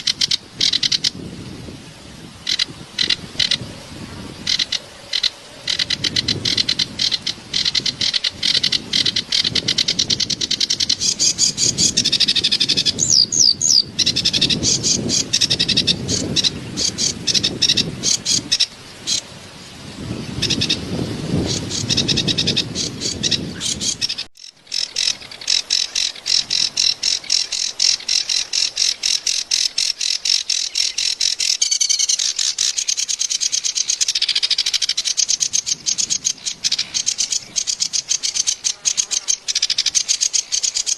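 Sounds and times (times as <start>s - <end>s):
warbler chattering song: 4.2s - 19.2s, 19.8s - 40.9s.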